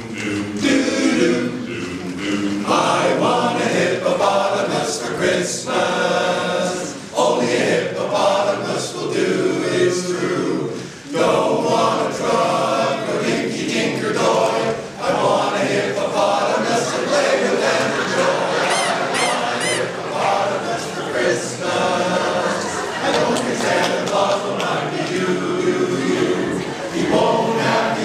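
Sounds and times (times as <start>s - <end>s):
men's chorus singing a cappella: 0.0s - 28.0s.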